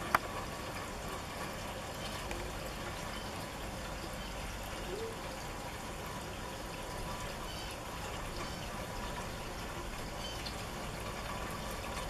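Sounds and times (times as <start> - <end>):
steady rain: 0.0 - 12.0
water pouring and trickling: 0.0 - 12.0.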